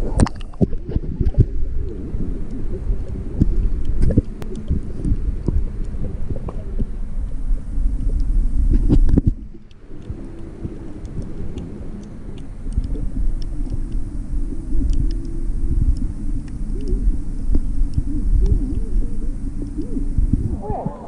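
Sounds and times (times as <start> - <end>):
small underwater clicks: 0.0 - 21.0
underwater rumble of moving water: 0.0 - 21.0.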